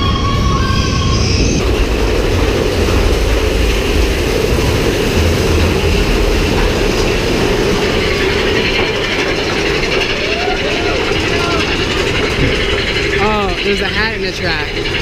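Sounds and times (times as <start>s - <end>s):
roller coaster wheels rumbling: 0.0s - 15.0s.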